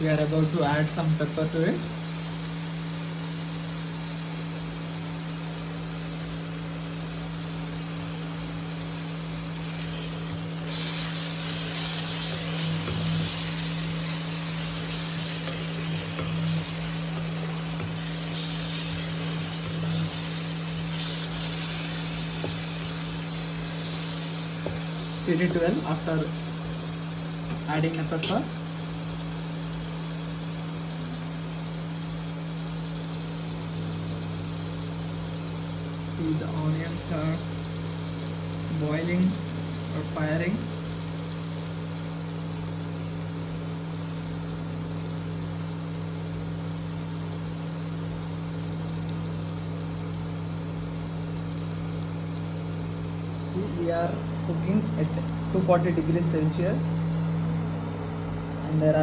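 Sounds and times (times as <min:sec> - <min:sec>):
cooktop low hum: 0:00.0 - 0:59.0
onions sizzling in a pan: 0:00.0 - 0:59.0.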